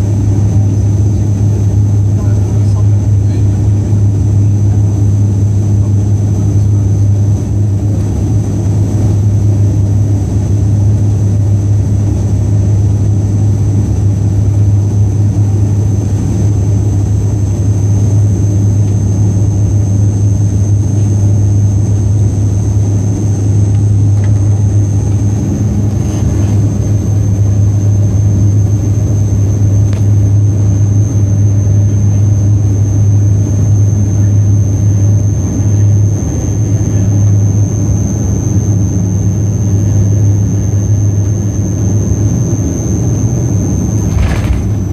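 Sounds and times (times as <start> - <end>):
turboprop engine drone: 0.0 - 44.9.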